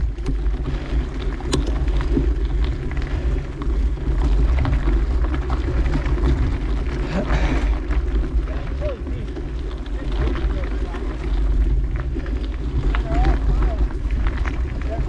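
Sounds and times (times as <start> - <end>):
bike tyre noise on trail: 0.0 - 15.0
small clicks and rattles: 0.0 - 15.0
wind rumble on microphone: 0.0 - 15.0.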